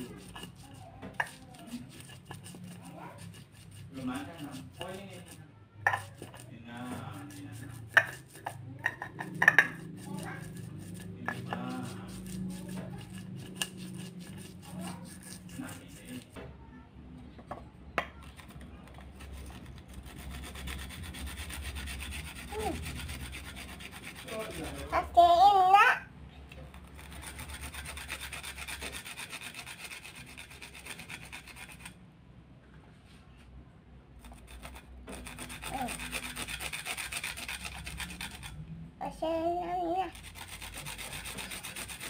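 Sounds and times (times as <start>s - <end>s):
shallot scraping on grater: 0.0s - 16.4s, 18.4s - 25.2s, 26.7s - 32.0s, 34.2s - 38.6s, 40.1s - 42.0s
spices scraped in stone mortar: 0.0s - 16.4s, 18.2s - 25.2s, 26.6s - 32.0s, 34.2s - 38.6s, 40.1s - 42.0s.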